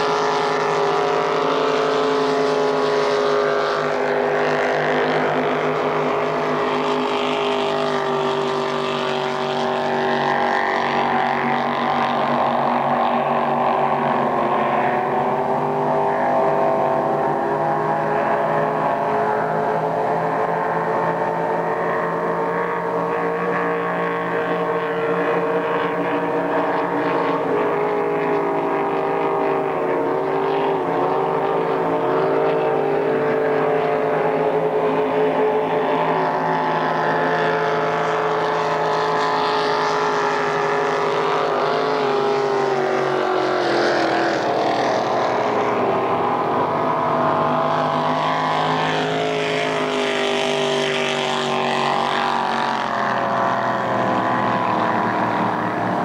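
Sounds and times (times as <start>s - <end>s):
racing powerboat engines droning: 0.0s - 56.0s.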